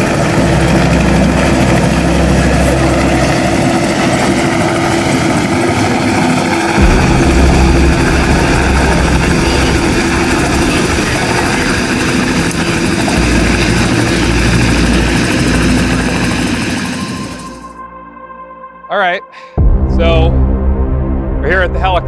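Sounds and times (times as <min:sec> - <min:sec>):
helicopter rotor and engine: 0:00.0 - 0:17.8.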